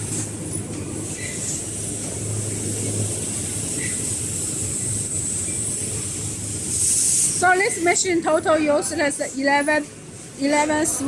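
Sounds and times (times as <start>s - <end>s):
constant high hiss: 0.0s - 10.8s.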